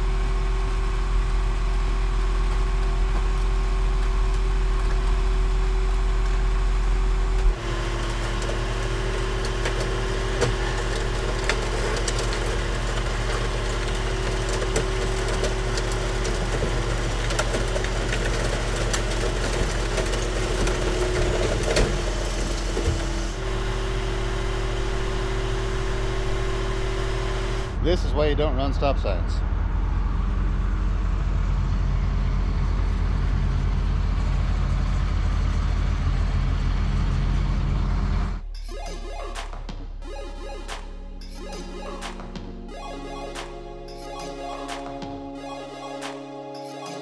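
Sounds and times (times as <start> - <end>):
car crusher engine drone: 0.0 - 47.0.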